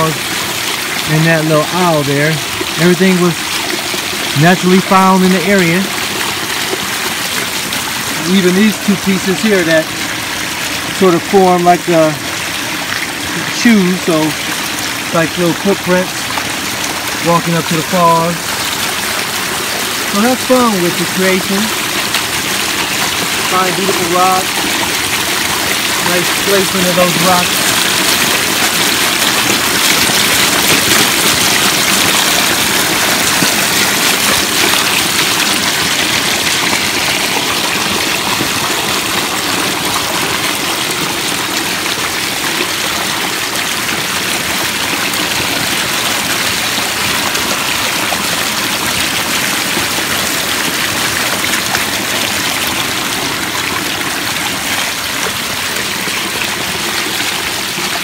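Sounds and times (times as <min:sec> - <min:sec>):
waterfall splashing on rocks: 0:00.0 - 0:58.0.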